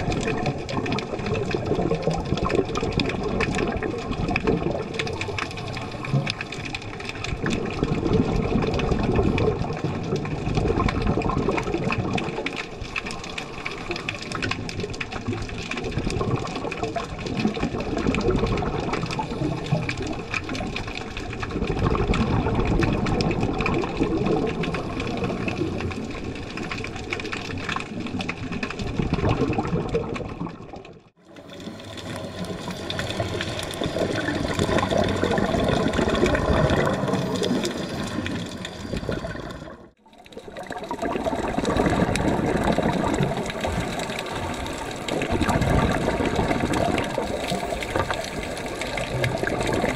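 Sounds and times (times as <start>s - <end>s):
underwater bubbling water: 0.0s - 49.9s.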